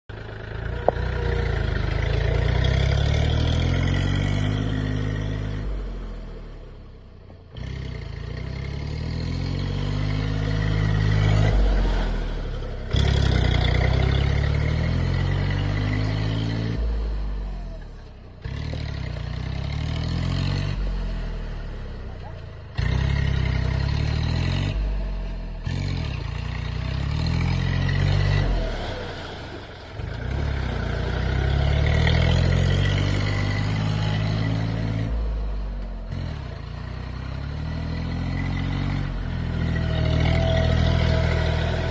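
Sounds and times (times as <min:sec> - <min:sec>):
tractor engine running: 0:00.1 - 0:41.9.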